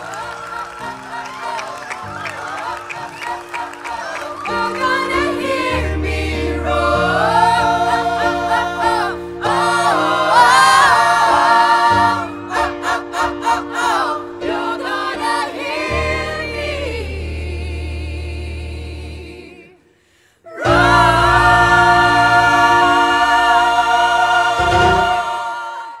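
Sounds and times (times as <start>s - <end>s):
mixed choir singing: 0.0s - 19.9s, 20.5s - 26.0s.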